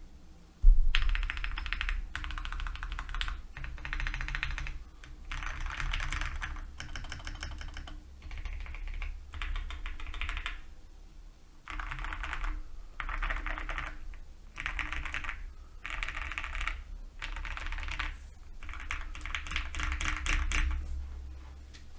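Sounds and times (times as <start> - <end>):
mechanical keyboard typing: 0.9 - 10.6, 11.7 - 20.8.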